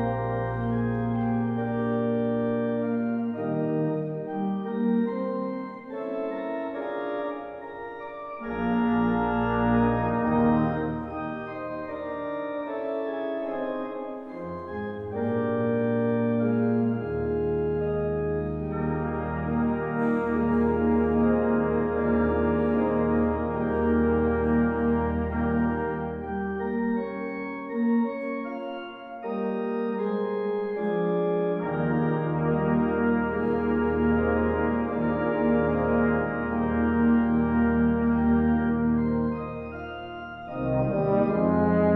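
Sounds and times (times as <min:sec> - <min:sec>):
organ playing full chords: 0:00.0 - 0:41.9.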